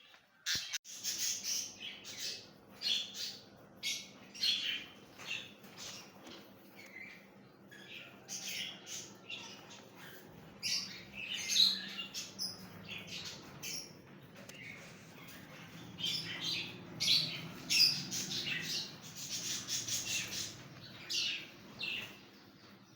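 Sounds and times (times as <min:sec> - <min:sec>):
caged birds chirping and squawking: 0:00.0 - 0:22.9.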